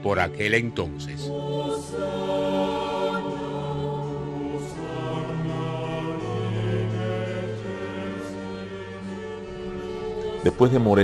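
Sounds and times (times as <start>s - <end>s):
slow choral chords: 0.0s - 11.0s.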